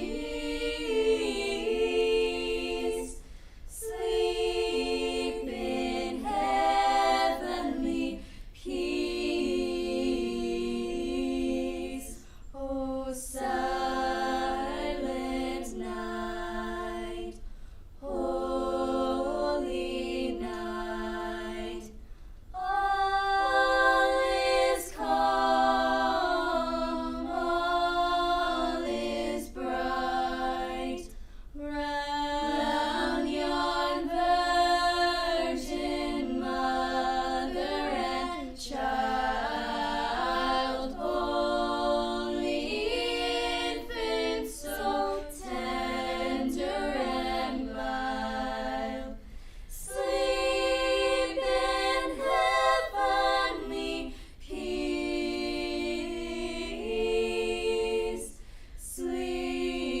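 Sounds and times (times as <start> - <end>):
choir singing a cappella: 0.0 - 60.0.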